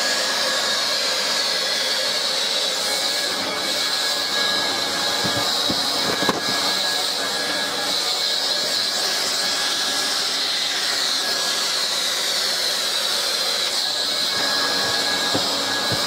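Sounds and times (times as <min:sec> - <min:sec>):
hot-air welding gun hissing: 0:00.0 - 0:16.0.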